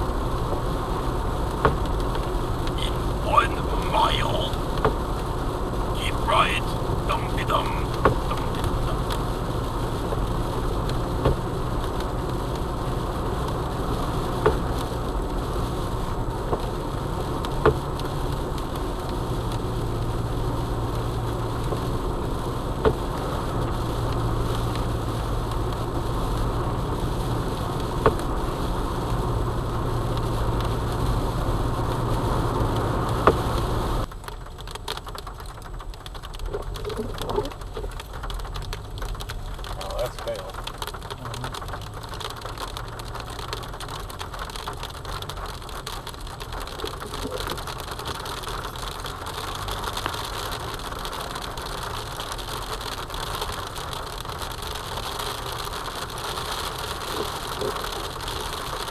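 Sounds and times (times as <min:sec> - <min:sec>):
car cabin road and engine noise: 0:00.0 - 0:58.9.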